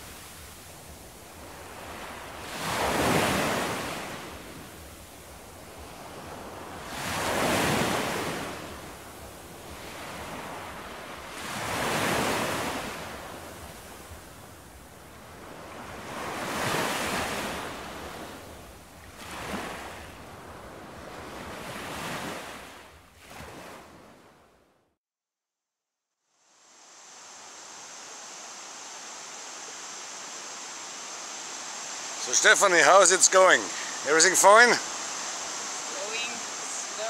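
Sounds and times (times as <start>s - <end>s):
sea waves breaking on beach: 0.0s - 24.7s, 26.5s - 37.0s.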